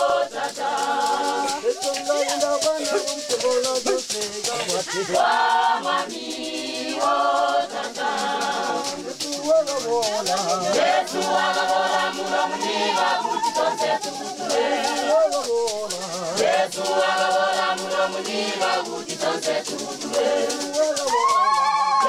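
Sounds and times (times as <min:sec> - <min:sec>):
choir singing in harmony: 0:00.0 - 0:03.2, 0:04.0 - 0:21.1
shaker beat: 0:00.0 - 0:22.0.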